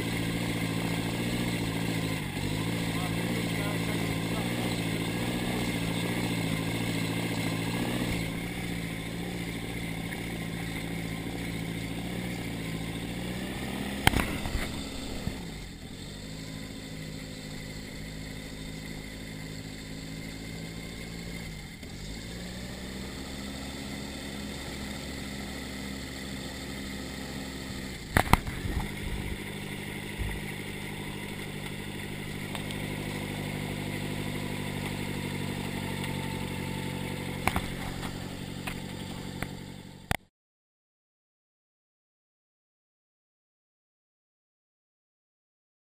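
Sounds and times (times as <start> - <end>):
engine and propeller running: 0.0 - 40.3.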